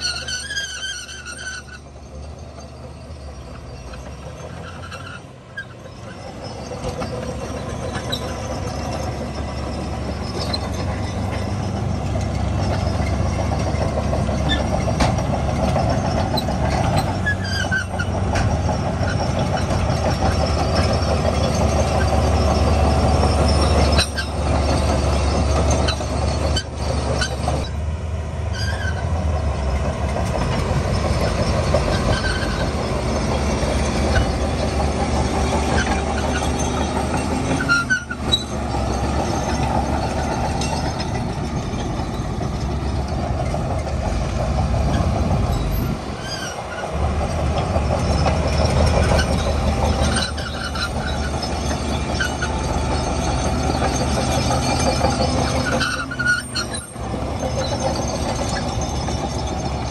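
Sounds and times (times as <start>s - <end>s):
short high squeaks: 0.0s - 27.8s, 28.5s - 29.2s, 30.1s - 59.9s
heavy diesel engines rumbling: 0.0s - 59.9s.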